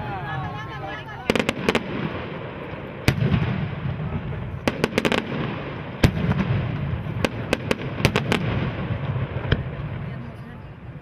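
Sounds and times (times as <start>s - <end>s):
fireworks bangs: 0.0s - 11.0s
low rumble of fireworks: 0.0s - 11.0s.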